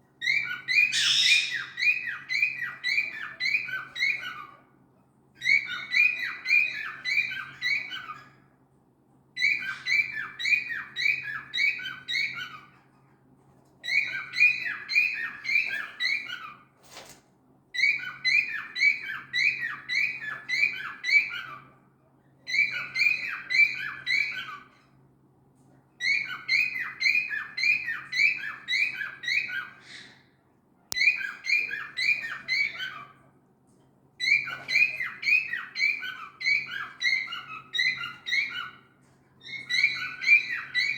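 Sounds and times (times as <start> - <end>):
cockatiel chirping calls: 0.2 - 4.6, 5.4 - 8.4, 9.4 - 12.8, 13.8 - 16.6, 17.8 - 21.7, 22.5 - 24.8, 26.0 - 30.2, 30.9 - 33.2, 34.2 - 40.9.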